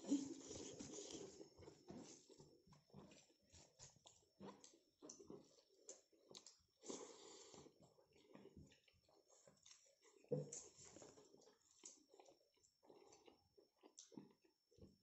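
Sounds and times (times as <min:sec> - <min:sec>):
mouth chewing and smacking: 0:00.0 - 0:15.0.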